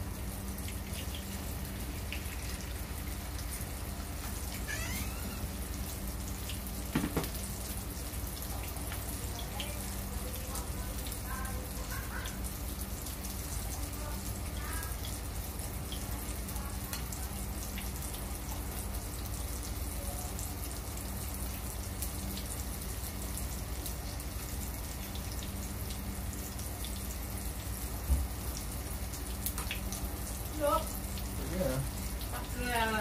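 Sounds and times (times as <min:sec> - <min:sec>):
fish frying in oil: 0:00.0 - 0:33.0.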